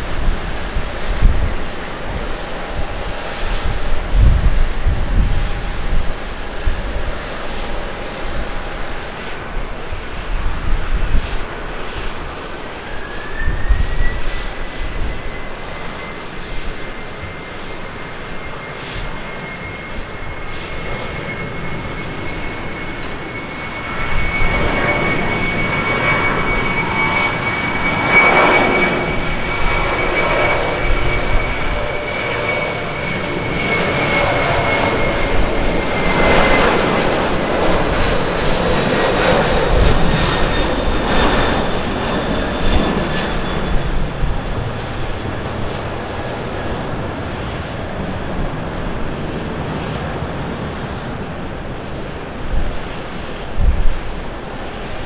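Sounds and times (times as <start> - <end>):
jet engines on takeoff: 0.0 - 55.0.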